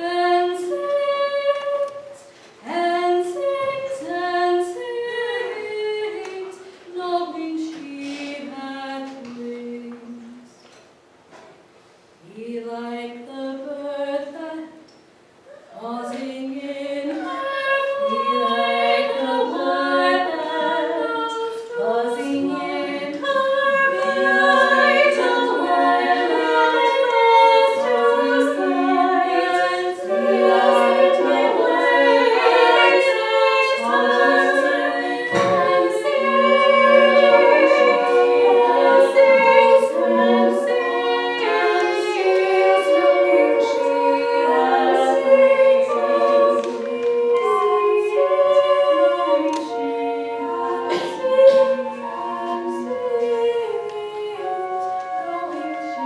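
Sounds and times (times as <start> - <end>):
choir singing in harmony: 0.0 - 10.5, 12.2 - 14.8, 15.6 - 56.0.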